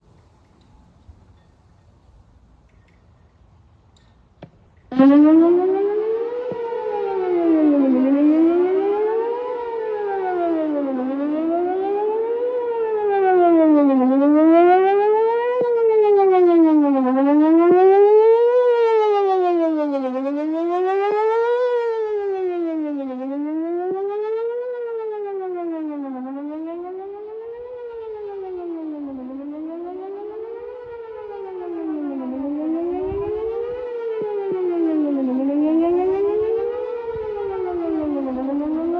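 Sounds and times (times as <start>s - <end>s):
warning siren wailing: 4.8s - 38.9s.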